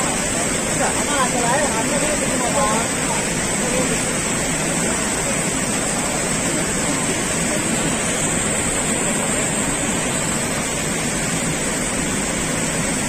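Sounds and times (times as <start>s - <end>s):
white water rushing: 0.0s - 13.0s.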